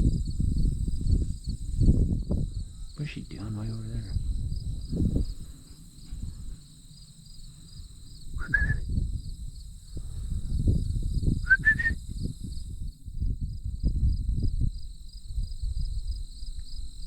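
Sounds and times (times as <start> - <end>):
insects trilling: 0.0 - 17.0
wind rumble on microphone: 0.0 - 17.0.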